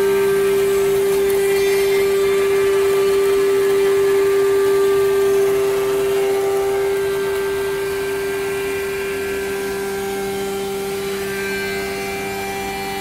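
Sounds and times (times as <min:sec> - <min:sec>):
cutter machining wood: 0:00.0 - 0:13.0
router spindle whine: 0:00.0 - 0:13.0.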